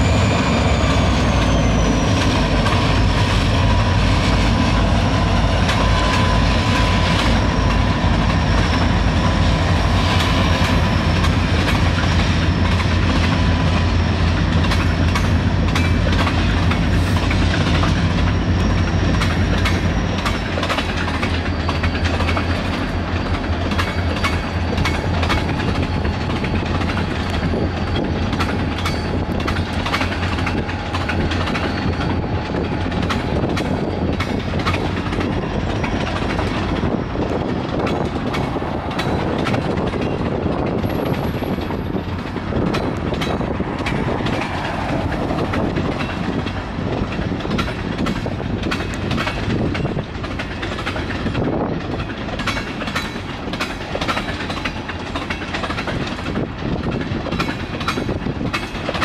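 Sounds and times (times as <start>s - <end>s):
diesel locomotive drone: 0.0s - 59.0s
train wheels clicking over rail joints: 0.0s - 59.0s.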